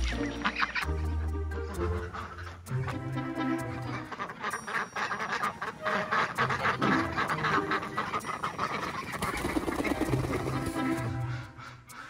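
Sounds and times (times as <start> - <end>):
ducks quacking: 0.0 - 12.0
geese honking: 0.0 - 12.0.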